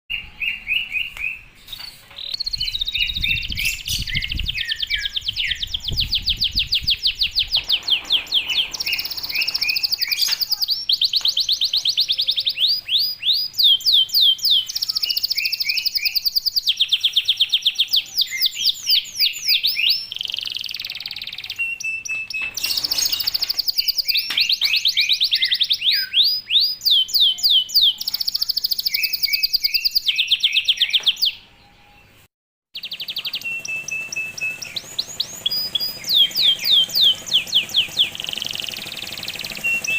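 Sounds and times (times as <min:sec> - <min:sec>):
canary trilling song: 0:00.1 - 0:39.9.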